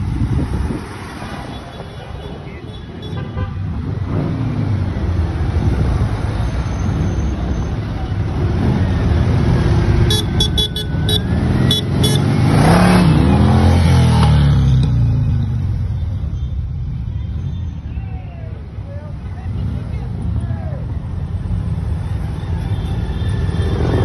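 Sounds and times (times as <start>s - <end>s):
motorcycles and trikes passing: 0.0s - 24.0s.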